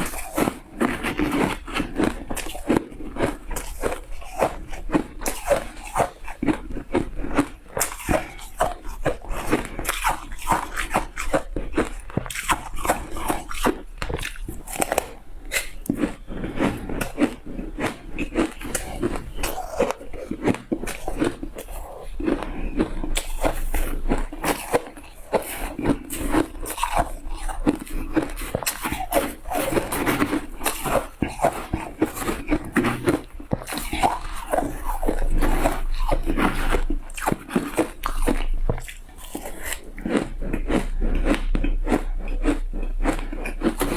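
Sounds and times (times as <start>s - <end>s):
ice crunching while chewed: 0.0s - 43.9s
wet mouth sounds: 0.0s - 43.9s.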